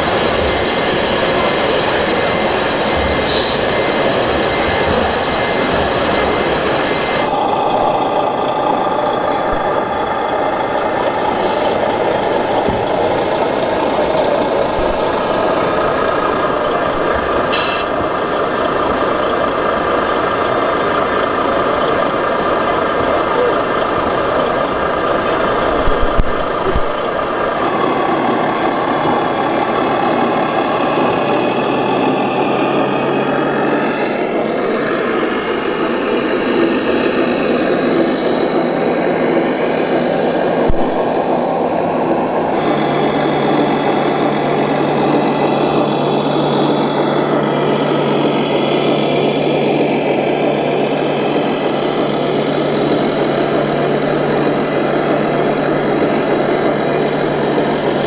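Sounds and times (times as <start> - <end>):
model trucks engine drone: 0.0 - 58.0.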